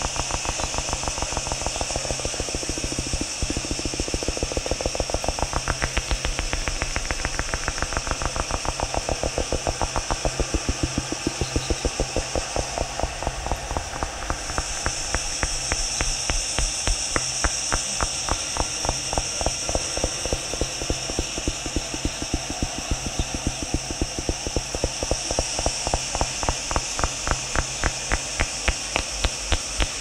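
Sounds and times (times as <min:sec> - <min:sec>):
fast train of clicks: 0:00.0 - 0:30.0
high hiss: 0:00.0 - 0:30.0
steady low hum: 0:00.0 - 0:30.0.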